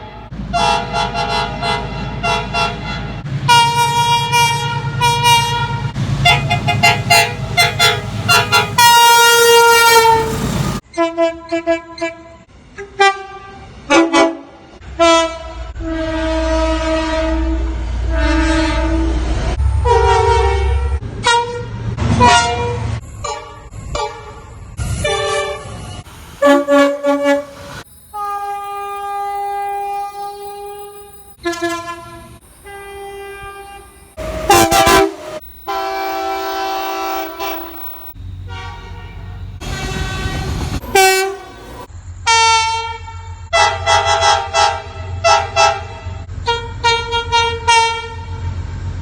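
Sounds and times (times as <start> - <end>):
train horns: 0.0 - 48.6.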